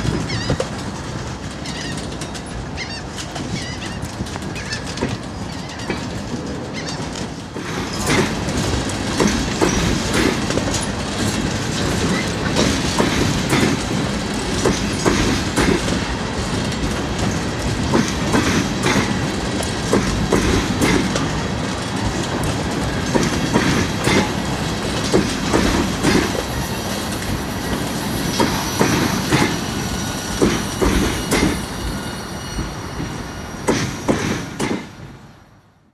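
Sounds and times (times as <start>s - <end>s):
clickety-clack of rail joints: 0.0s - 35.9s
train wheels rumbling on rail: 0.0s - 35.9s.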